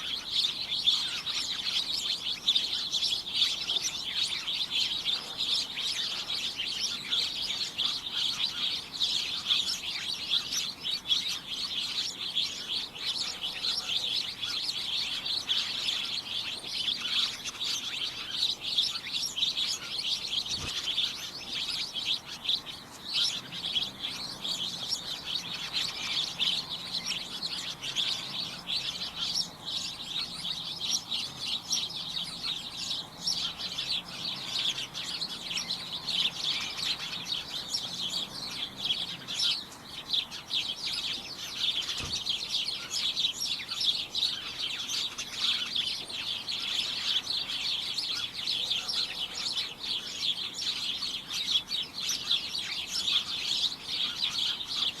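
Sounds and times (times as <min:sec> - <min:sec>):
flock of birds chirping: 0:00.0 - 0:55.0.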